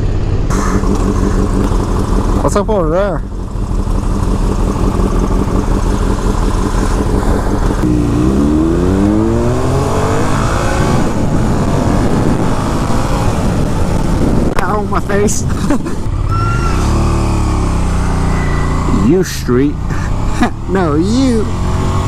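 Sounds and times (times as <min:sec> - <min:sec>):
motorcycle engine revving: 0:00.0 - 0:22.0
road and wind noise: 0:00.0 - 0:22.0.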